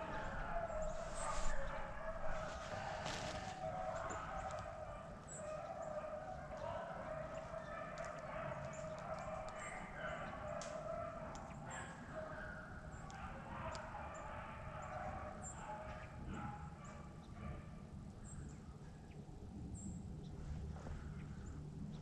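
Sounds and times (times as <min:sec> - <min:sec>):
beagles baying in distance: 0:00.0 - 0:18.9.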